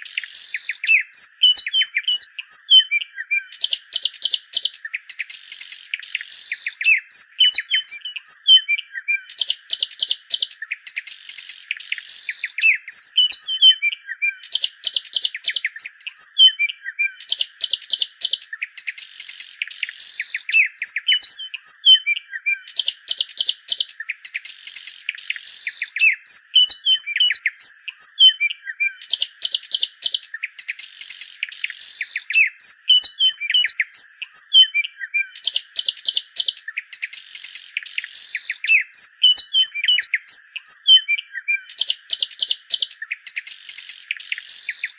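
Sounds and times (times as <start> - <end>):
bird song trills and chirps: 0.0 - 44.9.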